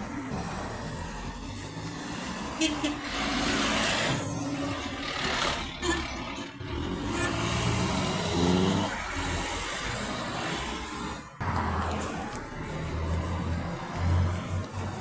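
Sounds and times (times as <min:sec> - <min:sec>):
heavy truck engine revving: 0:00.0 - 0:15.0
tyre and road noise: 0:00.0 - 0:15.0.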